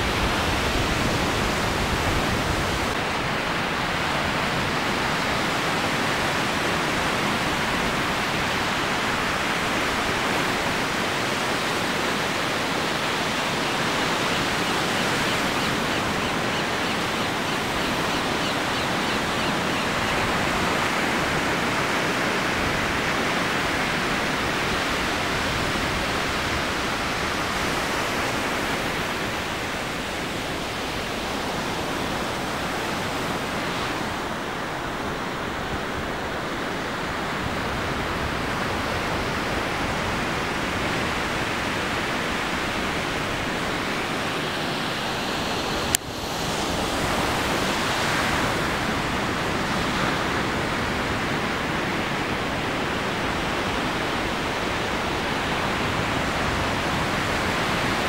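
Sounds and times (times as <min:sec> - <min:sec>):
ocean surf breaking: 0:00.0 - 0:58.0.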